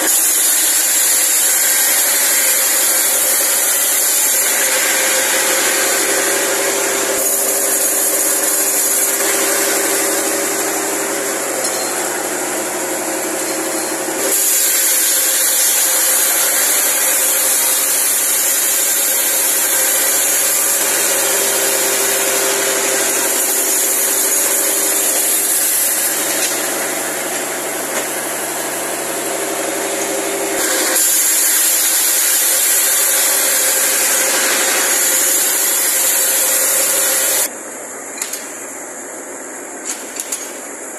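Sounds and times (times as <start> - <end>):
band saw cutting wood: 0.0 - 37.5.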